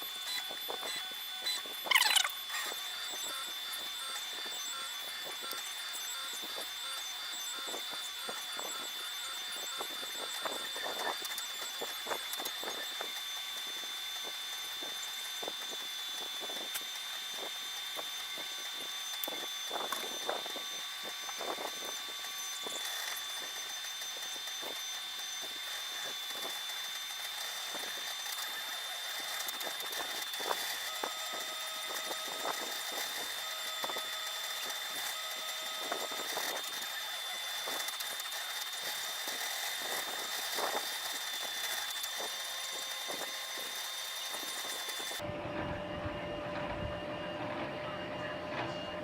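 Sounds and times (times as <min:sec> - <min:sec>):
small clicks of print head: 0:00.0 - 0:45.2
stepper motors whining: 0:00.0 - 0:49.0.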